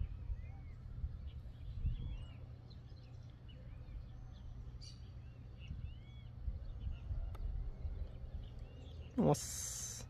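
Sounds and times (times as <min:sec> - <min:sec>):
wind buffeting microphone: 0:00.0 - 0:09.2
small birds chirping: 0:00.0 - 0:10.0.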